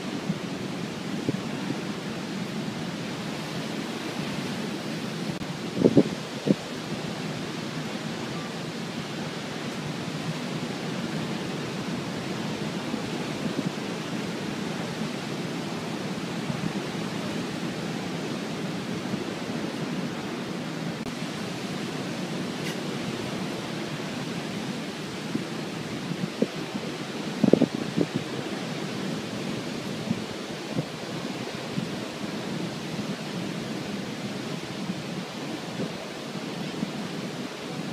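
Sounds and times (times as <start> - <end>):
storm wind and water roar: 0.0 - 37.9.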